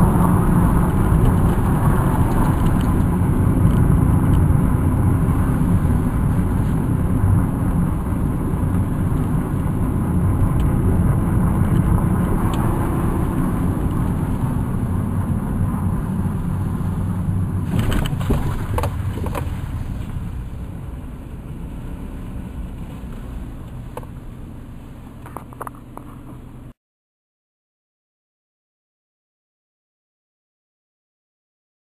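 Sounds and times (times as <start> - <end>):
car engine and tyre rumble: 0.0 - 26.8.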